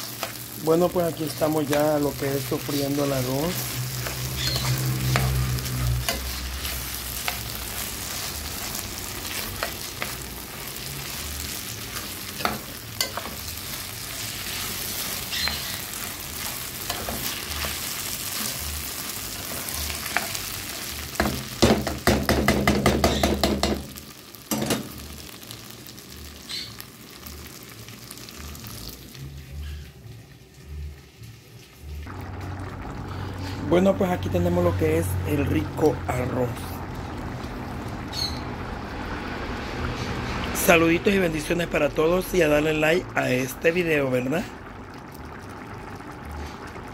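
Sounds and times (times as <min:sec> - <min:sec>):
rice sizzling in oil: 0:00.0 - 0:46.9.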